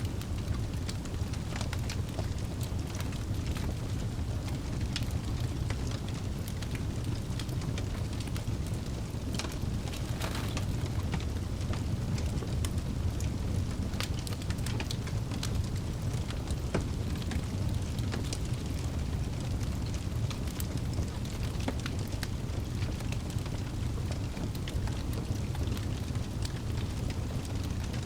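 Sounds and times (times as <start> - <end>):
burning logs crackling and popping: 0.0 - 28.0
fire flames rumbling: 0.0 - 28.0.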